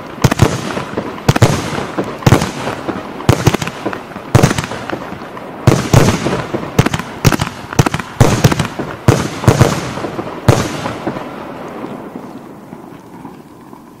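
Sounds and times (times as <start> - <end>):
firework battery bangs: 0.0 - 12.1.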